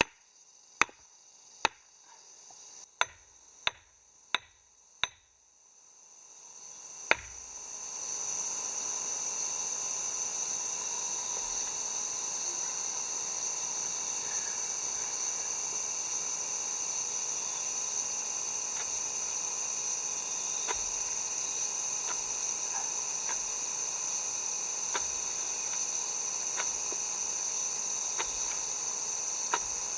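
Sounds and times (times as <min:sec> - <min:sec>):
insects buzzing: 0:00.0 - 0:29.9.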